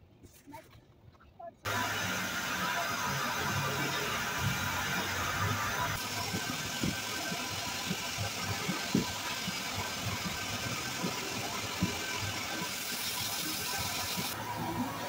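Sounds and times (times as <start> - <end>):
engine-like machine noise: 1.7 - 15.0.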